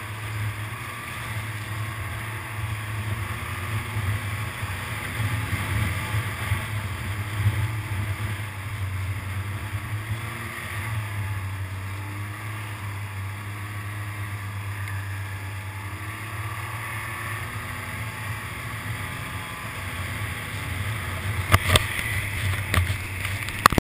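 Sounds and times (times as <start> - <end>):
snowmobile engine droning: 0.0 - 23.8.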